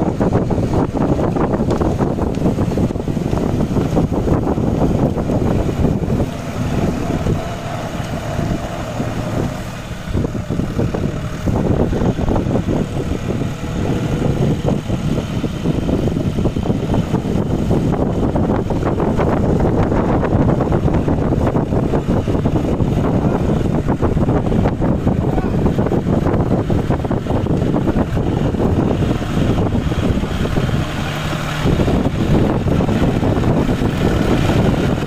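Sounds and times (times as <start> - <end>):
rotavator churning wet mud: 0.0 - 35.0
tractor diesel engine under load: 0.0 - 35.0.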